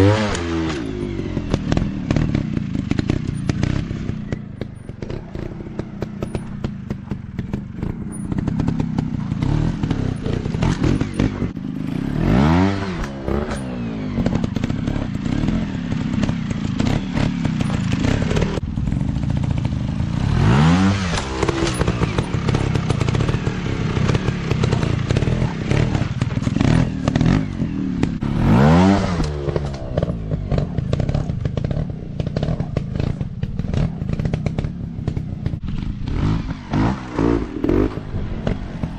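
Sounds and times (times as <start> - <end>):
dirt bike engines popping: 0.0 - 38.9
dirt bike revving: 0.0 - 38.9.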